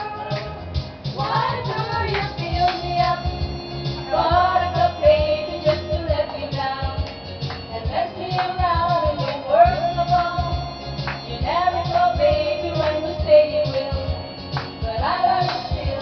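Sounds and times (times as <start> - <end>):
backing track with steady beat: 0.0 - 16.0
women singing karaoke: 0.0 - 16.0.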